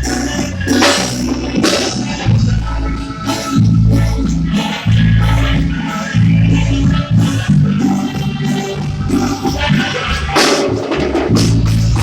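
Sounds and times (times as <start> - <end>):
live band playing: 0.0 - 12.0
percussion beat: 0.0 - 12.0.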